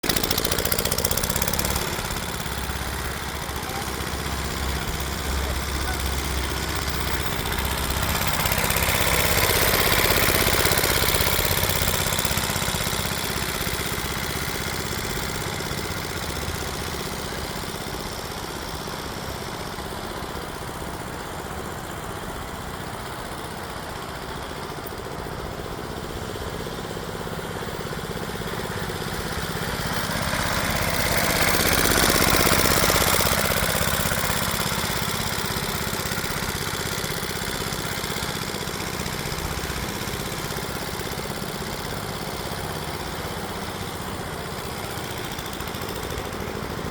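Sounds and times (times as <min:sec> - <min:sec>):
old stationary engine running: 0:00.0 - 0:46.9.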